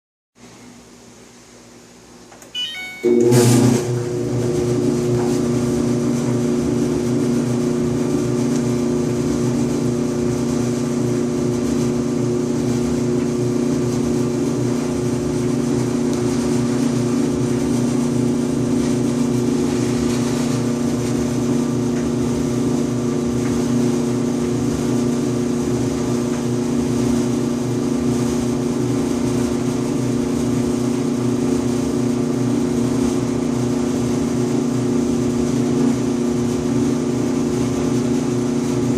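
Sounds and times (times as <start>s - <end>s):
clothes dryer buzzing hum: 0.4s - 38.9s.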